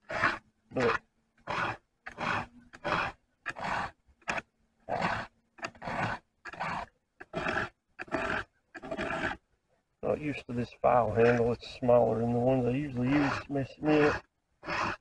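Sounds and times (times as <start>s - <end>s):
file rasping on saw chain: 0.0s - 9.4s, 12.0s - 15.0s.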